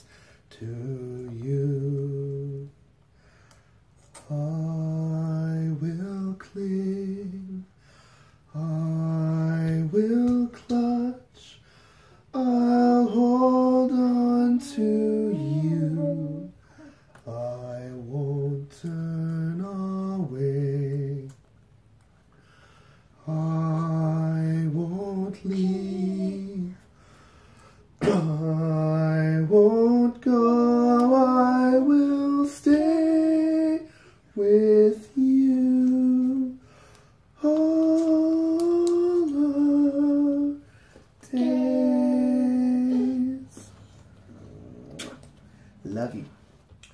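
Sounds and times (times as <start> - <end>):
man singing a lullaby: 0.0 - 3.4, 4.0 - 21.5, 22.7 - 44.3.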